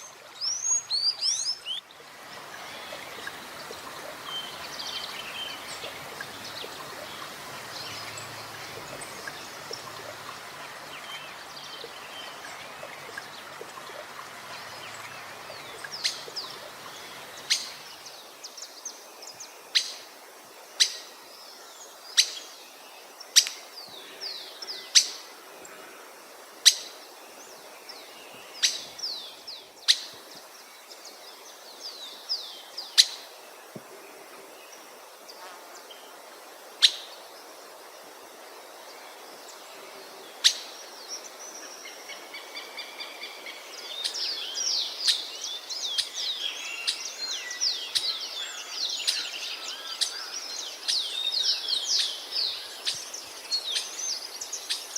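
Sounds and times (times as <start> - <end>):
wild birds singing: 0.0 - 54.9.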